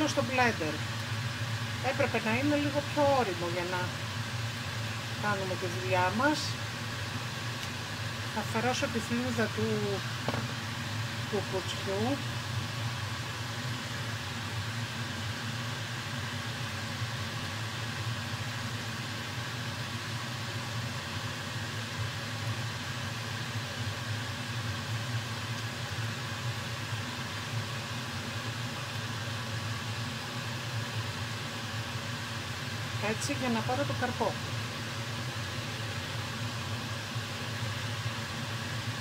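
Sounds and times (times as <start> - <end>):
low mechanical hum with hiss: 0.0 - 39.0.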